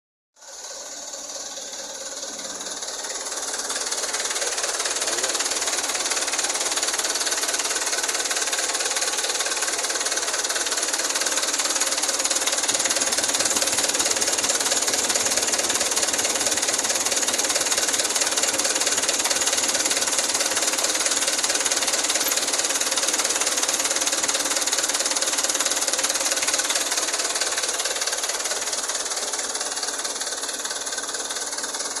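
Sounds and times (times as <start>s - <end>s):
truck diesel engine running: 0.4s - 32.0s.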